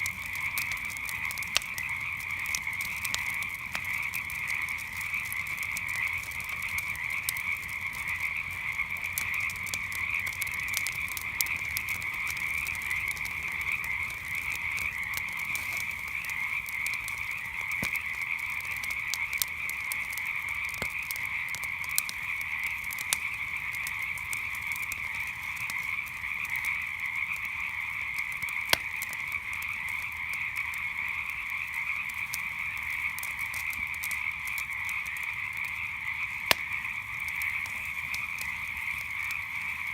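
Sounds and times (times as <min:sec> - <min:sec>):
campfire popping and crackling: 0:00.0 - 0:39.9
frogs calling: 0:00.0 - 0:39.9.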